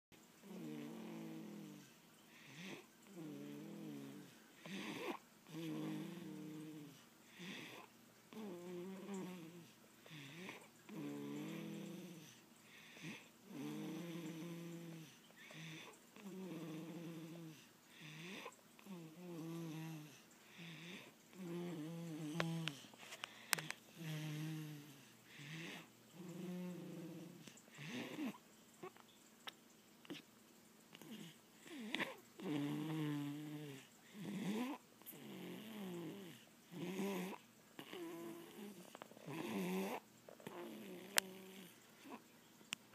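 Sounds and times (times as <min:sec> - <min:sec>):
baby snoring: 0:00.4 - 0:28.9, 0:30.9 - 0:42.2.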